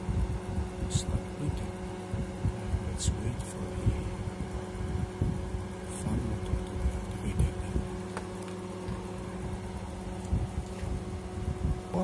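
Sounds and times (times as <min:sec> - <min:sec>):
electrical hum: 0:00.0 - 0:12.0
low uneven rumble: 0:01.0 - 0:12.0.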